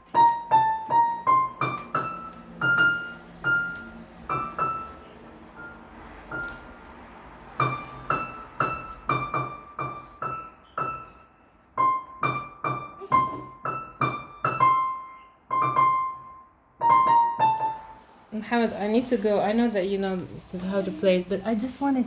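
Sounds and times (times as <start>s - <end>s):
child playing piano melody: 0.0s - 18.3s.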